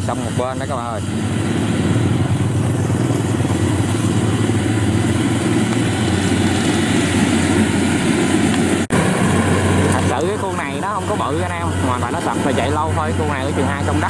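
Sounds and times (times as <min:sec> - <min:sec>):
combine harvester diesel engine: 0:00.0 - 0:14.0
threshing drum rushing: 0:00.5 - 0:14.0.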